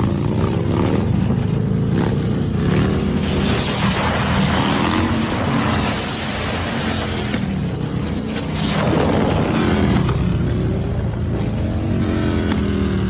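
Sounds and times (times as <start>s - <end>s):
motorcycle engine revving: 0.0s - 13.0s
road and wind rushing: 0.0s - 13.0s.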